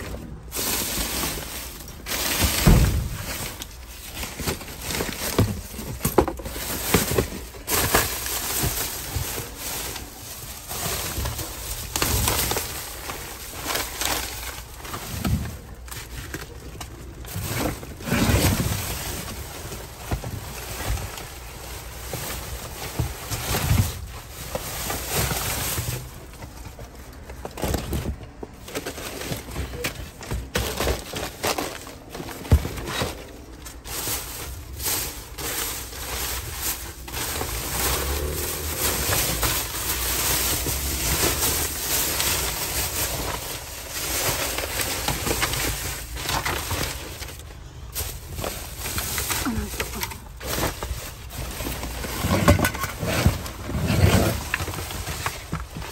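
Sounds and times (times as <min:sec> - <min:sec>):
plastic bags crinkling: 0:00.0 - 0:55.9.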